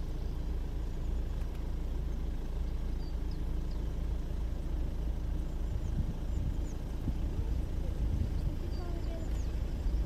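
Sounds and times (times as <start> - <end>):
car engine rumbling: 0.0 - 10.0
faint bird chirps: 0.0 - 10.0.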